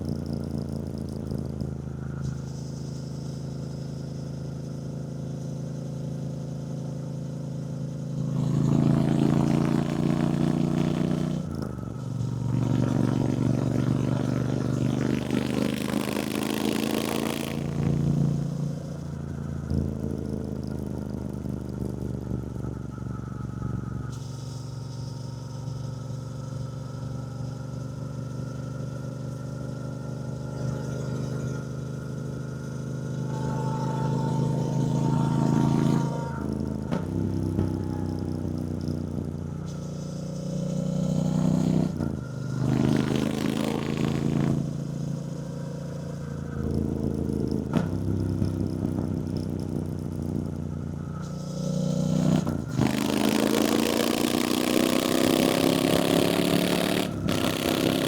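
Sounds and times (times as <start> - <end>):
motorcycle engine revving: 0.0 - 25.2, 26.2 - 58.0.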